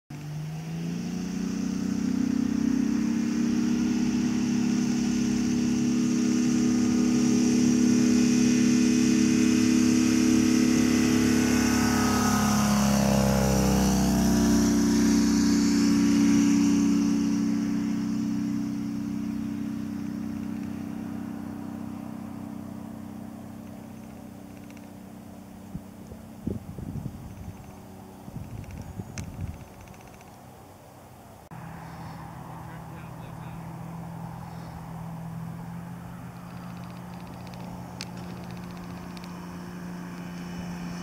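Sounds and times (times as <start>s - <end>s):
light aircraft engine and propeller: 0.1s - 41.0s.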